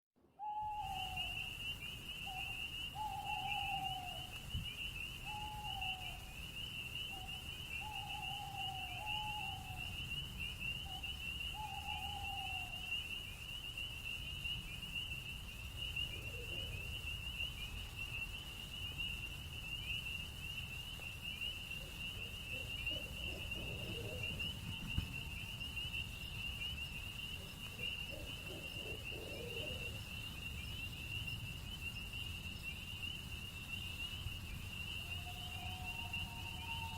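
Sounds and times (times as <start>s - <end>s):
crickets trilling: 0.4s - 36.9s.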